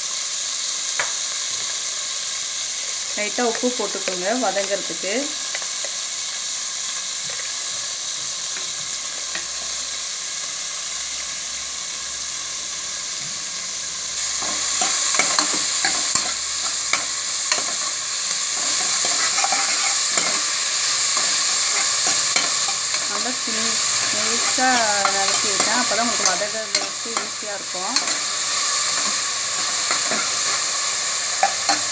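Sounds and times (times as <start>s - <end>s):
onions sizzling in oil: 0.0s - 31.9s.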